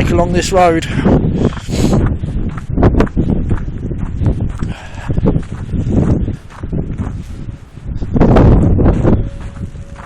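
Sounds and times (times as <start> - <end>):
wind rumbling on microphone: 0.0 - 10.0
footsteps crunching through snow: 1.3 - 10.0.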